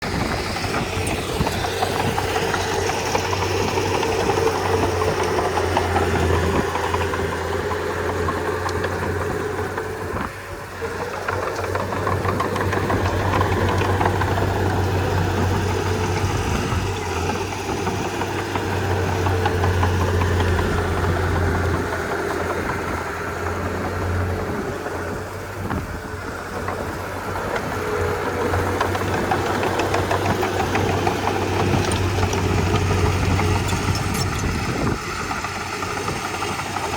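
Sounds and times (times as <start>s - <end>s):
bulldozer engine knocking clatter: 0.0s - 36.9s.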